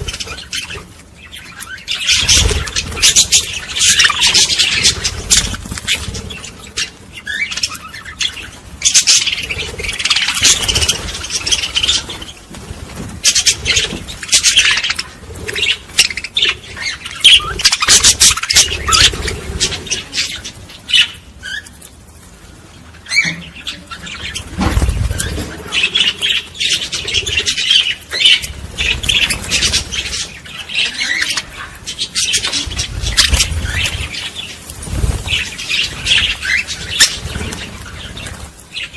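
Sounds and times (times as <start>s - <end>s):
flock of birds chirping and squawking: 0.0s - 38.9s.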